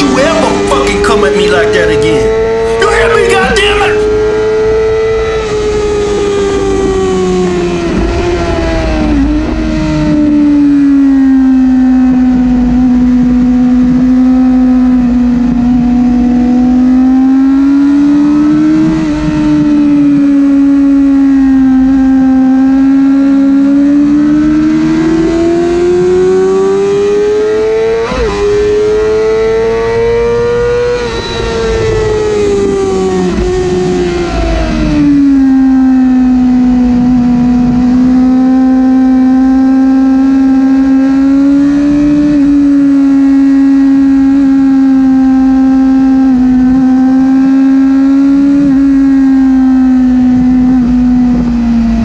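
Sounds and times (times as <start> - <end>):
motorcycle engine revving high: 0.0 - 52.0.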